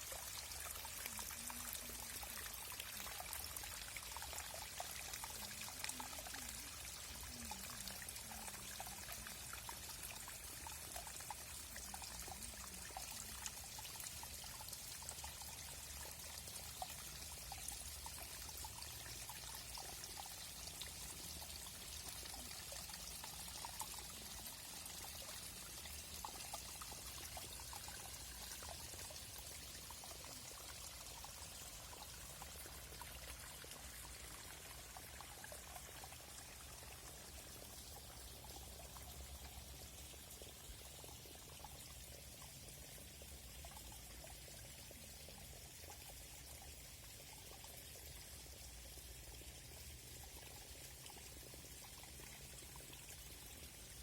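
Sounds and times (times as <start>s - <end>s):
stream flowing and bubbling: 0.0s - 54.0s.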